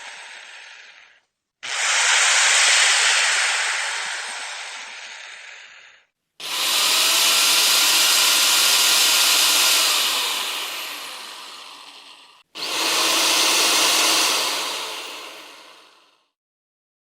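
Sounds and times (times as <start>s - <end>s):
electric drill whirring: 0.0s - 16.3s.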